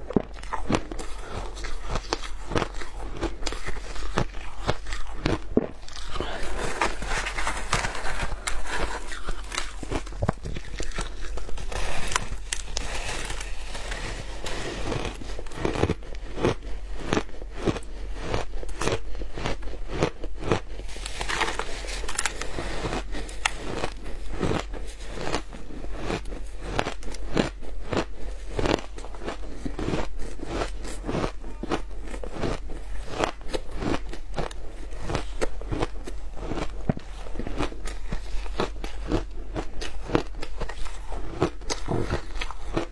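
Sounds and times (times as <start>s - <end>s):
chewing ice: 0.0s - 42.9s.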